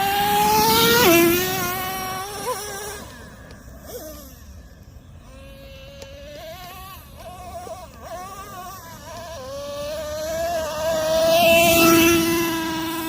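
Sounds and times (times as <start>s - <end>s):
engine high whine: 0.0s - 13.0s.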